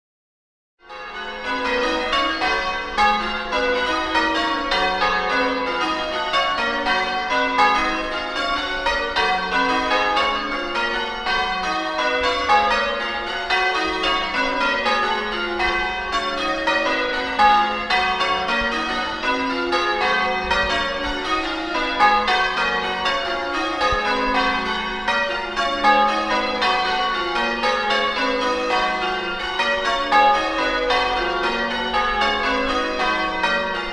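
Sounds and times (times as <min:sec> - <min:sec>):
church bells ringing: 0:00.8 - 0:33.9.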